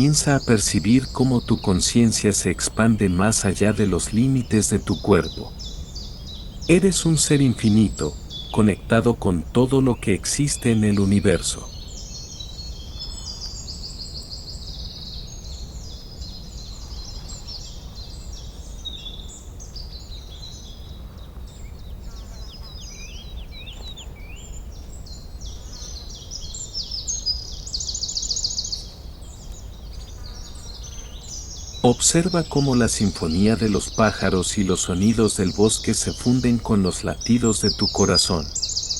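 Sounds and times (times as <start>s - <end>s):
birds singing: 0.0s - 38.9s.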